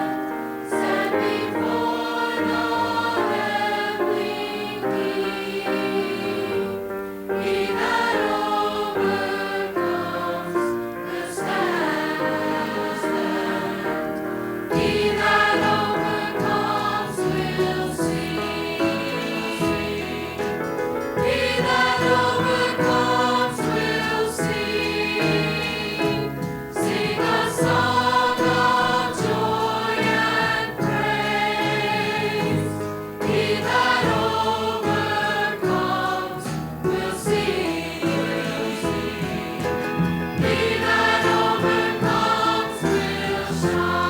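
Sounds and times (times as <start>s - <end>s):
choir singing sustained chords: 0.0s - 44.0s.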